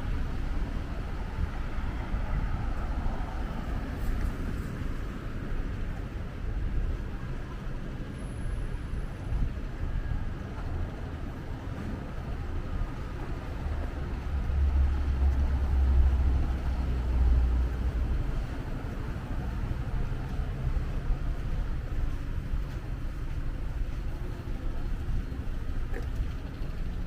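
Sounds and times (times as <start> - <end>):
rumble of passing vehicles: 0.0 - 27.0.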